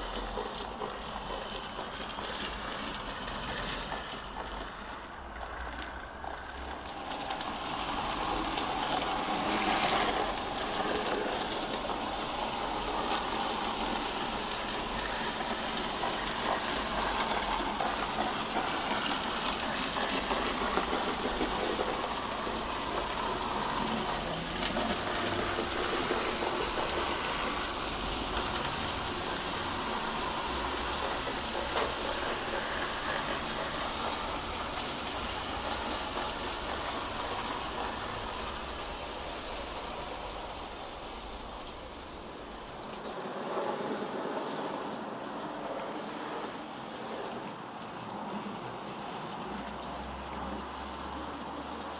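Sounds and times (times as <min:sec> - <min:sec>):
wheels clicking over rail joints: 0:00.0 - 0:51.9.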